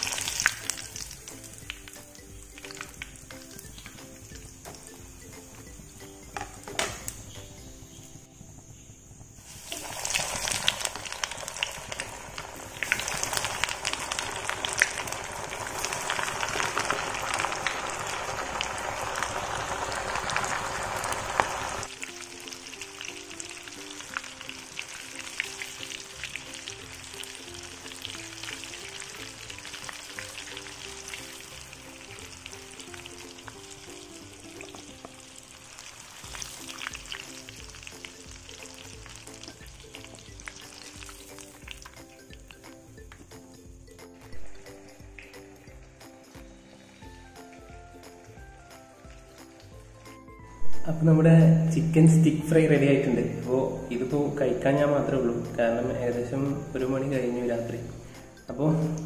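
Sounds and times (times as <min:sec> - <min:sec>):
background music: 0:00.0 - 0:59.0
chicken deep-frying in oil: 0:00.0 - 0:59.0.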